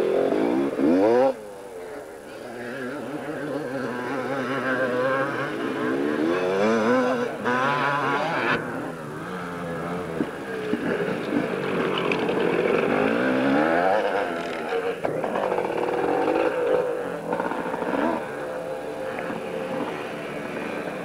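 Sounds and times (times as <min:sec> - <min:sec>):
motorcycles revving: 0:00.0 - 0:21.0.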